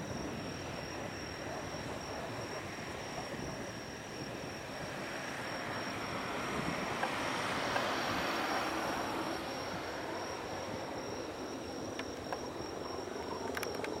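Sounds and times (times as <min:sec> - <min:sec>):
distant jet engine: 0:00.0 - 0:14.0
high-pitched insect trill: 0:00.0 - 0:14.0.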